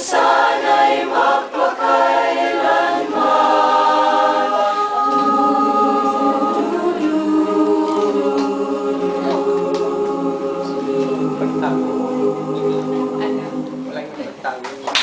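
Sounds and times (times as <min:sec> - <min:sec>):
mixed choir singing a cappella: 0:00.0 - 0:14.7.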